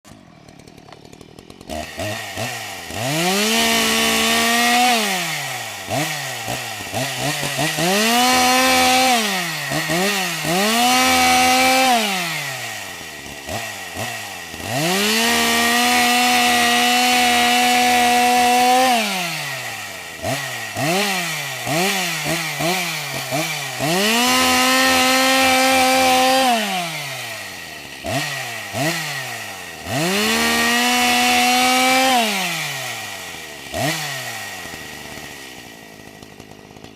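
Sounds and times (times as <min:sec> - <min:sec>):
chainsaw revving: 0:00.0 - 0:36.9.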